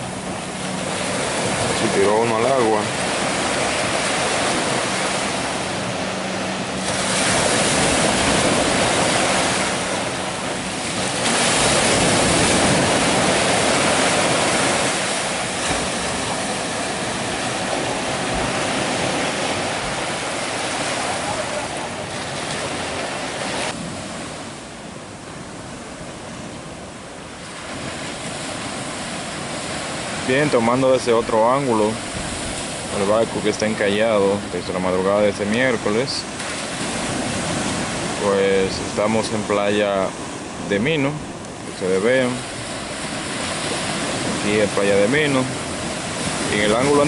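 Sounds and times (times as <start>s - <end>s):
ocean surf breaking: 0.0s - 47.0s.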